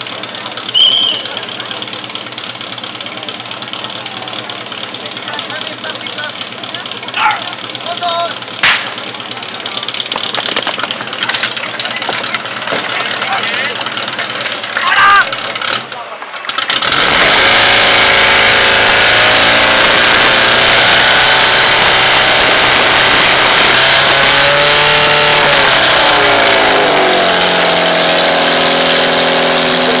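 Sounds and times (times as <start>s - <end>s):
petrol engine running flat out: 0.0s - 30.0s.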